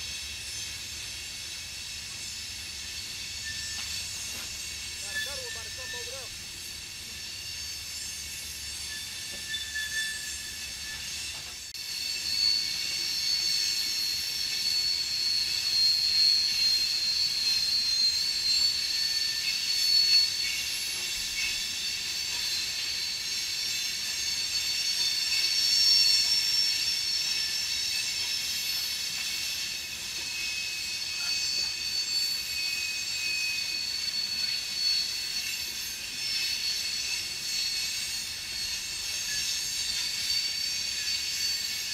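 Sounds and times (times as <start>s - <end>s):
rolling train wheels: 0.0s - 41.9s
train wheel flanges squealing: 0.0s - 41.9s.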